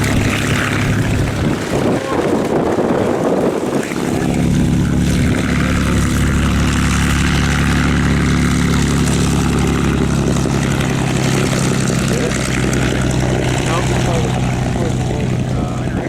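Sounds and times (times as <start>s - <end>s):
propeller aircraft engine running: 0.0s - 16.0s.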